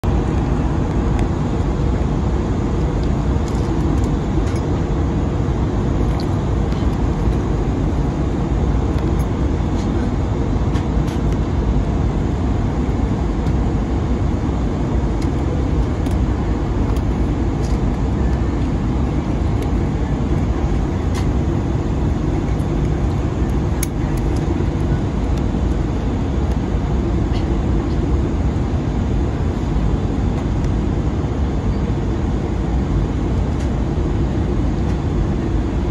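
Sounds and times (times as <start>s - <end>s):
airplane cabin airflow rush: 0.0s - 35.9s
jet engines droning: 0.0s - 35.9s.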